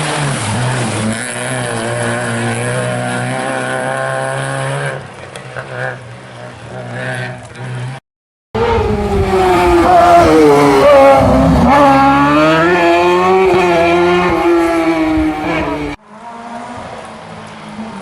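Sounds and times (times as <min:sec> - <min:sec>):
rally car engine revving: 0:00.0 - 0:08.0, 0:08.6 - 0:18.0.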